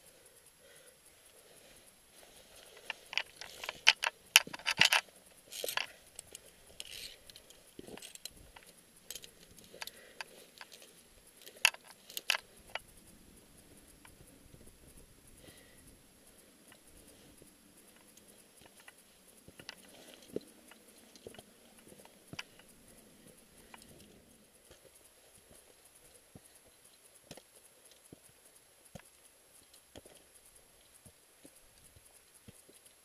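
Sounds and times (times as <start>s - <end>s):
carabiners clinking on steel cable: 0.9s - 28.3s.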